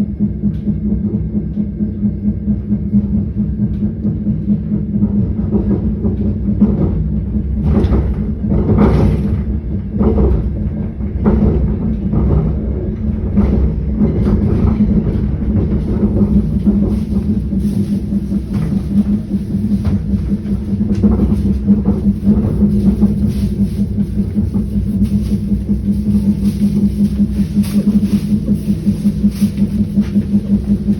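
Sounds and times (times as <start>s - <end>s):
train rumbling: 0.0s - 30.9s
train wheels clacking: 0.1s - 30.9s.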